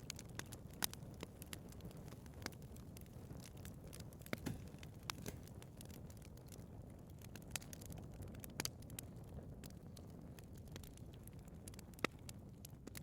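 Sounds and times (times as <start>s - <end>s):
fire crackling and popping: 0.0s - 13.0s
fire flames rumbling: 0.0s - 13.0s.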